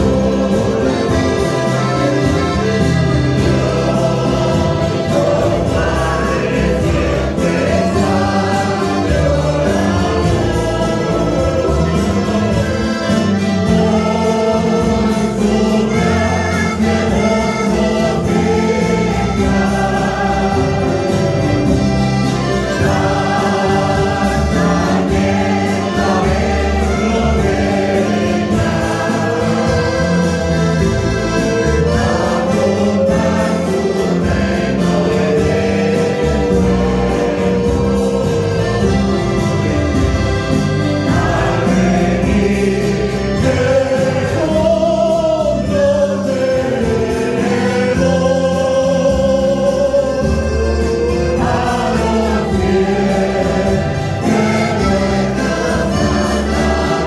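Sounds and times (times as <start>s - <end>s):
accordion: 0.0s - 57.0s
acoustic guitars: 0.0s - 57.0s
choir singing a hymn: 0.0s - 57.0s
mandolin: 0.0s - 57.0s.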